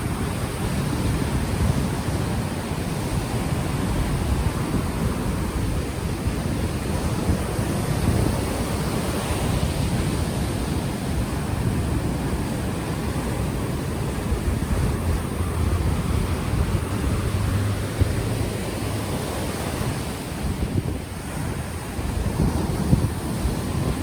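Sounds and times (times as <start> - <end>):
ocean waves washing onto shore: 0.0 - 24.0
wind buffeting microphone: 0.0 - 24.0.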